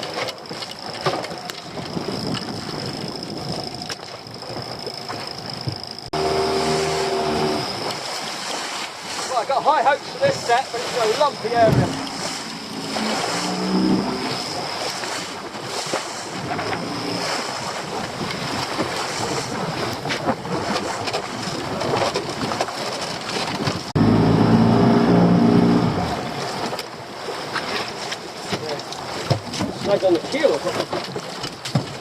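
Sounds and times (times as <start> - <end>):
boat engine running: 0.0 - 32.0
sea noise: 0.0 - 32.0
wind: 0.0 - 32.0.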